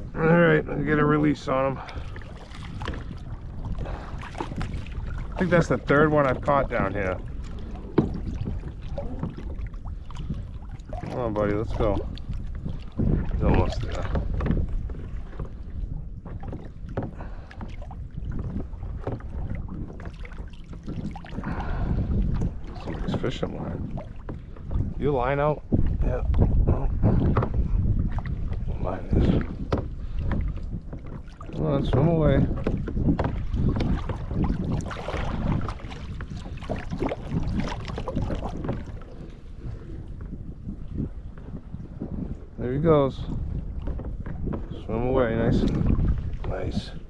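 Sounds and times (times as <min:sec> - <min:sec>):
water splashes: 0:00.0 - 0:47.0
wind rumbling on microphone: 0:00.0 - 0:47.0.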